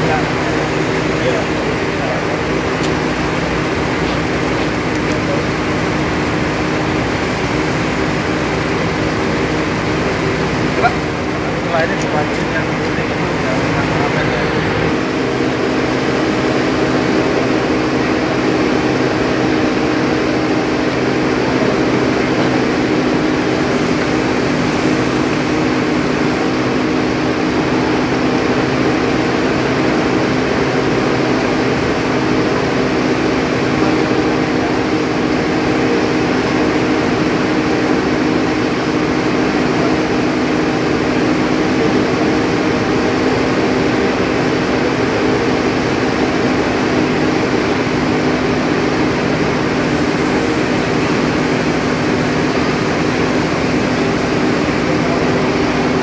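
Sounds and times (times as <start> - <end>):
heavy crane engine droning: 0.0 - 56.0.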